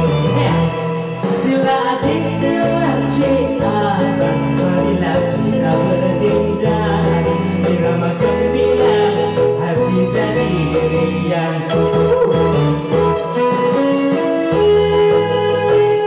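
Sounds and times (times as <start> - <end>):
man singing into microphone: 0.0 - 13.5
karaoke backing track: 0.0 - 16.0.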